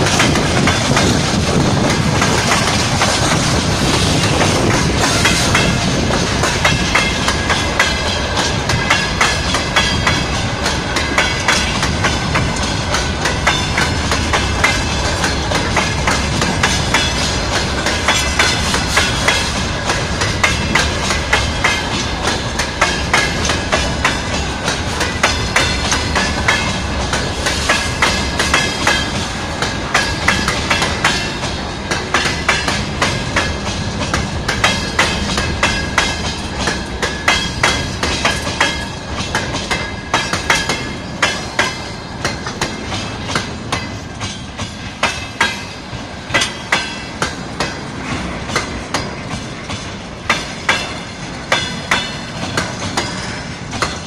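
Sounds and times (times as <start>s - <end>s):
train wheels rumbling: 0.0s - 54.0s
wheels clickety-clack on rail joints: 0.0s - 54.0s.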